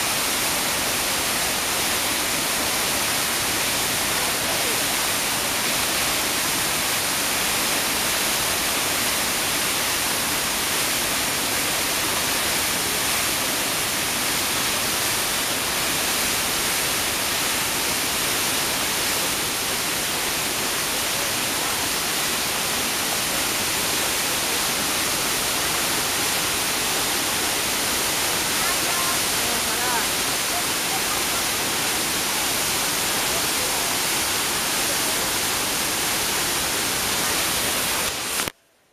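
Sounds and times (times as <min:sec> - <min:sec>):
waterfall rushing: 0:00.0 - 0:38.5.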